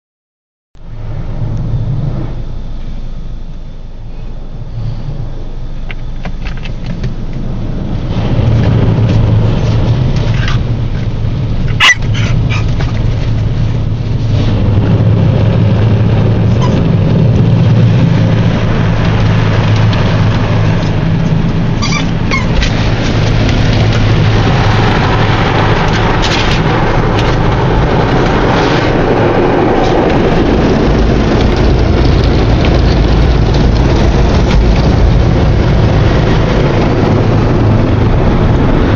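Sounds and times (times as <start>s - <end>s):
machinery low hum: 0.8s - 38.9s.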